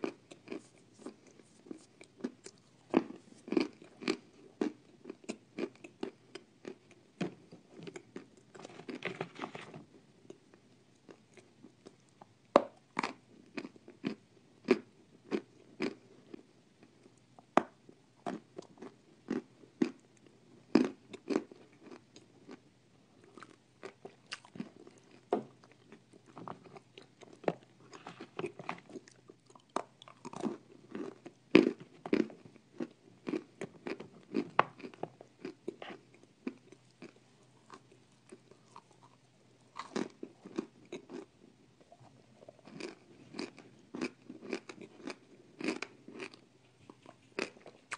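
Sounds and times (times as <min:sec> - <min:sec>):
crunching and chewing: 0:00.0 - 0:47.9.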